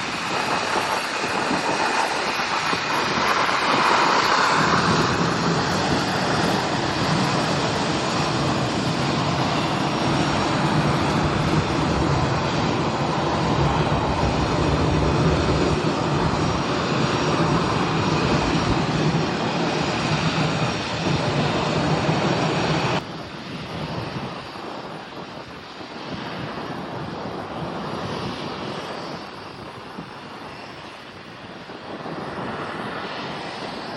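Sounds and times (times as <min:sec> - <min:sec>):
airliner engines roaring: 0:00.0 - 0:33.9
faint wind-like noise: 0:00.0 - 0:33.9.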